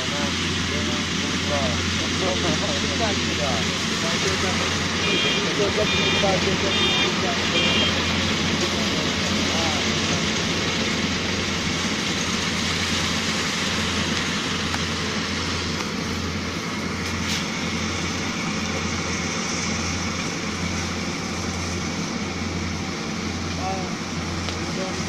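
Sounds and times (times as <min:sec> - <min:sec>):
combine harvester droning: 0:00.0 - 0:25.0.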